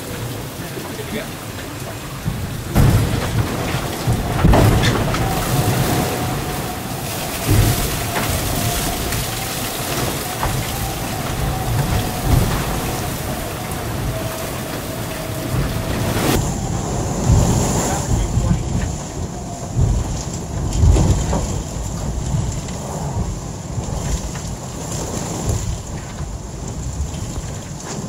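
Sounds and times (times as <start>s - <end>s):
rushing water: 0.0s - 28.0s
wind noise: 0.0s - 28.0s
low heavy thuds: 1.6s - 24.7s.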